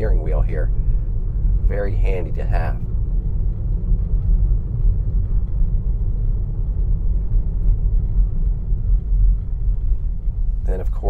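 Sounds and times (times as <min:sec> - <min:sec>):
road rumble and tyre noise: 0:00.0 - 0:11.0.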